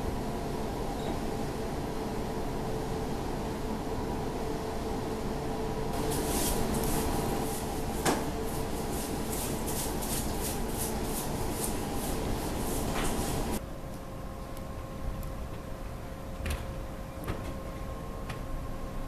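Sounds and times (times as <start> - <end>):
ship machinery hum: 0.0 - 19.0.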